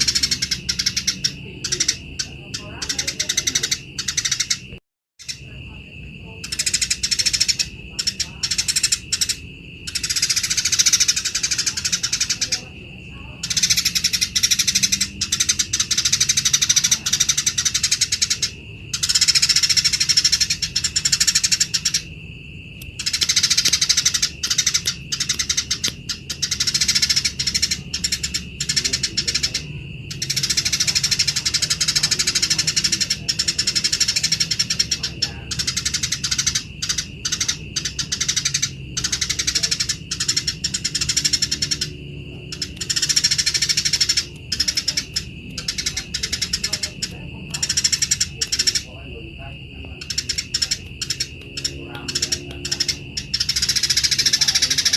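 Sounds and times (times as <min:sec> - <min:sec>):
sparrows chattering harshly: 0:00.0 - 0:54.9.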